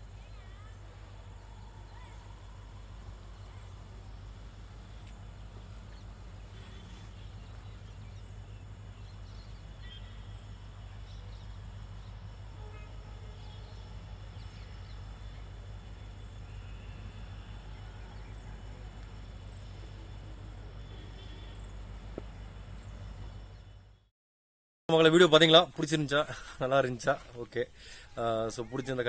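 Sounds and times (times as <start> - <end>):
birds chirping: 0.0 - 24.1, 24.9 - 29.0
low outdoor hum: 0.0 - 24.1, 24.9 - 29.0.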